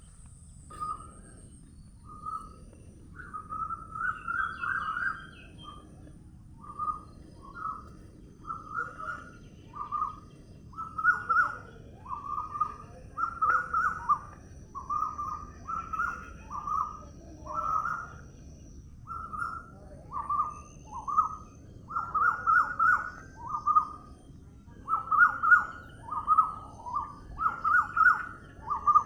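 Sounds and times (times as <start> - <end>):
faint outdoor hiss: 0.0 - 29.0.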